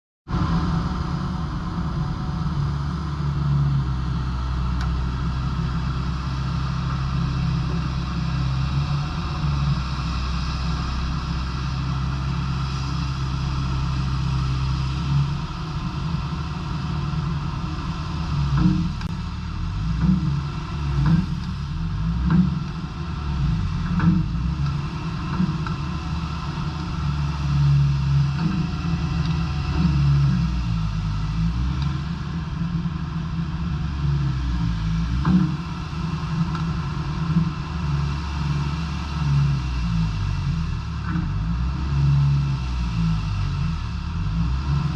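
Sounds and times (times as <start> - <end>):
excavator diesel engine running: 0.3 - 44.9.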